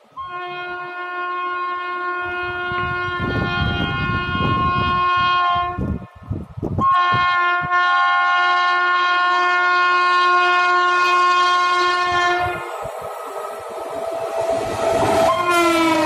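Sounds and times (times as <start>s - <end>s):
locomotive multi-tone horn: 0.2s - 6.0s, 6.8s - 12.8s, 14.5s - 16.0s.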